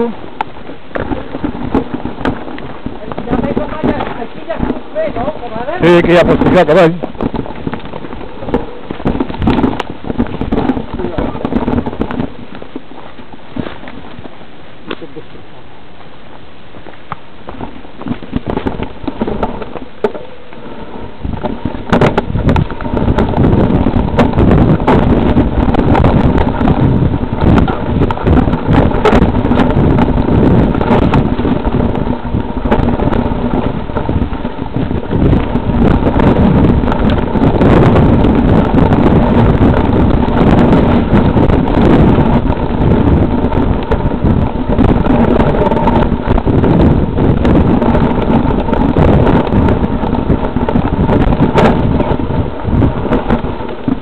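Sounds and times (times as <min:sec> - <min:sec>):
bike rumble and rattling: 0:00.0 - 0:54.0
wind buffeting microphone: 0:00.0 - 0:54.0.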